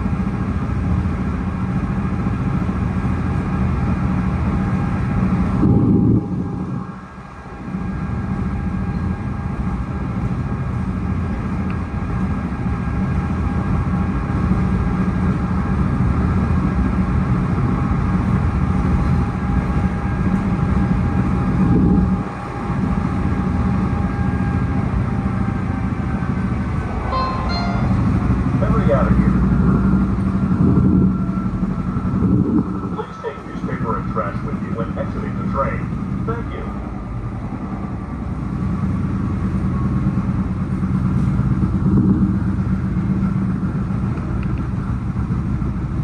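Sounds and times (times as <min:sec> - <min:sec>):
rumble of wheels on rail: 0:00.0 - 0:46.0.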